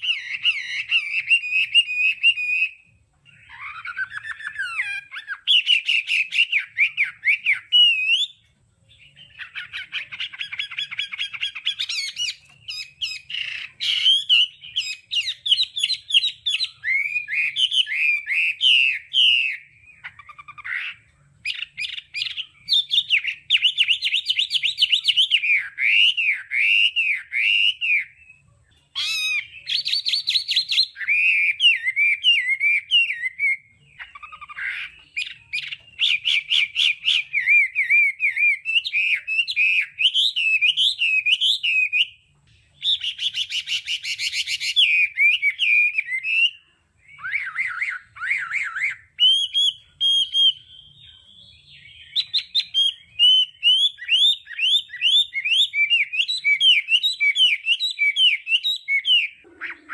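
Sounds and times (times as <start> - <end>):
bird singing whistled song: 0.0 - 59.9.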